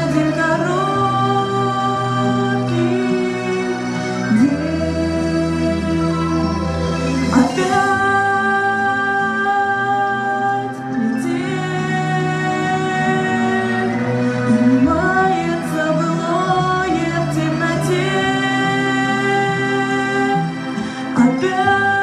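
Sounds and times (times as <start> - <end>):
instrumental accompaniment: 0.0 - 22.0
woman singing a slow ballad: 0.0 - 22.0.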